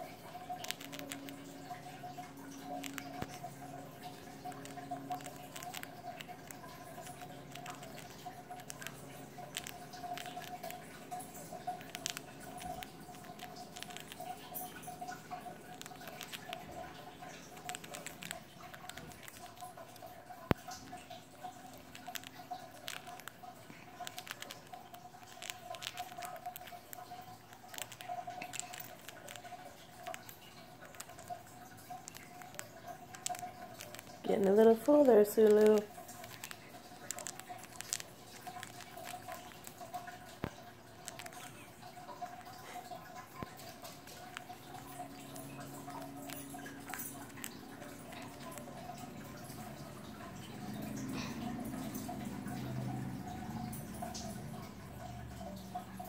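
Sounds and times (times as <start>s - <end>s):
faint steady hum: 0.0s - 56.0s
hamster gnawing crunches: 0.0s - 56.0s.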